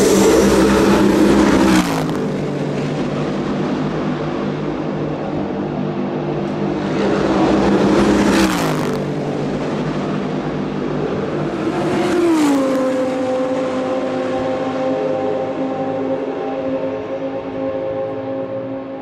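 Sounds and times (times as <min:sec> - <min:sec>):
race cars passing at speed: 0:00.0 - 0:19.0.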